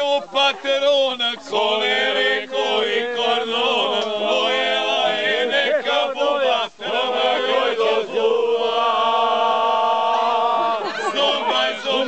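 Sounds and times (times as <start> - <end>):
men singing unaccompanied: 0.0 - 12.0.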